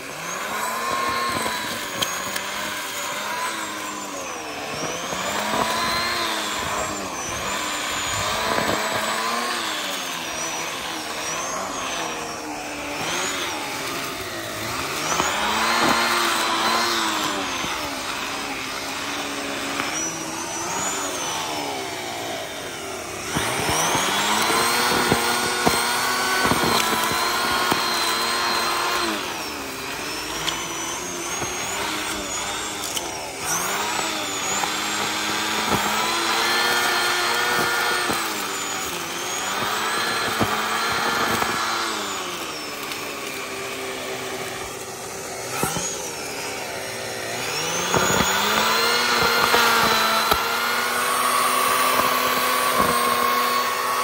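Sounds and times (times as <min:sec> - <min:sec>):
vacuum cleaner on a rug: 0:00.0 - 0:54.0.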